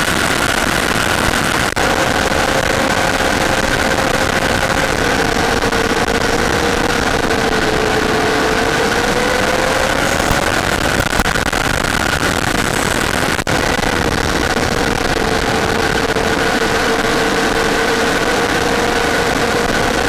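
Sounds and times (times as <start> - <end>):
model plane motor whine: 0.0 - 20.0
rushing air noise: 0.0 - 20.0.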